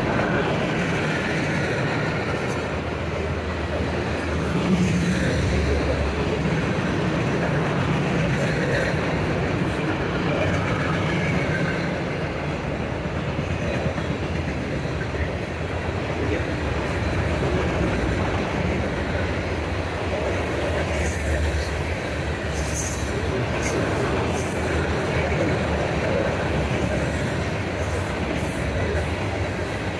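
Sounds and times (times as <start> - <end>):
freight train rumbling and rattling: 0.0 - 29.9.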